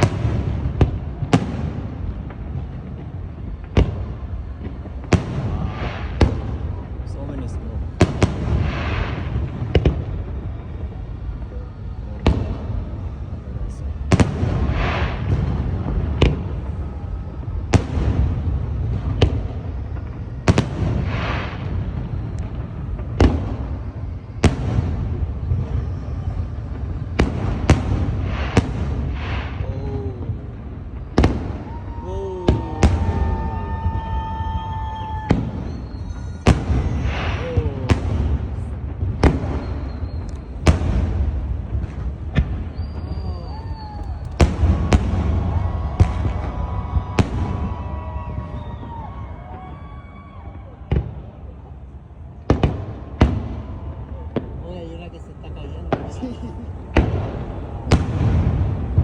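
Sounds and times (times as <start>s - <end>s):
fireworks bursting: 0.0s - 50.3s, 50.9s - 59.0s.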